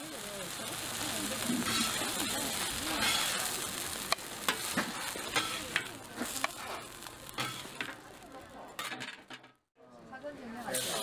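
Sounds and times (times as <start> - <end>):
pancake sizzling in oil: 0.0 - 8.8, 10.6 - 11.0.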